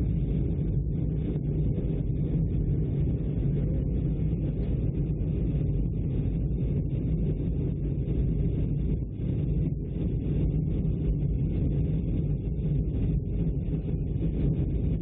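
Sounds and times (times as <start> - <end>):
airliner cabin jet engine rumble: 0.0 - 15.0.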